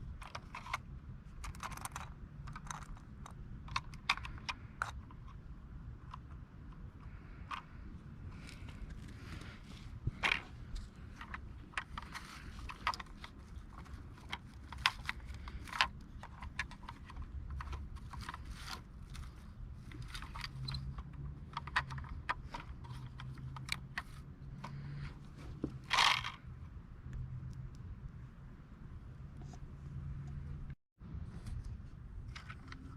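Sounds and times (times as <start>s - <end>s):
low steady hum: 0.0s - 32.9s
light clicks and scrapes: 0.1s - 27.9s, 29.3s - 30.5s, 31.2s - 32.9s.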